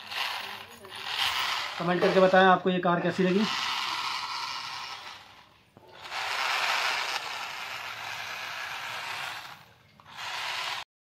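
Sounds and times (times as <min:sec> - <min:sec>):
toy car motor and gears whirring: 0:00.0 - 0:10.9.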